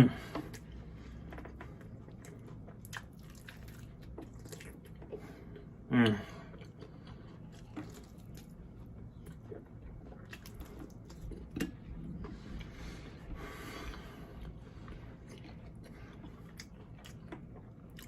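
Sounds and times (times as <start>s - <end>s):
person chewing wet food: 0.0s - 18.0s.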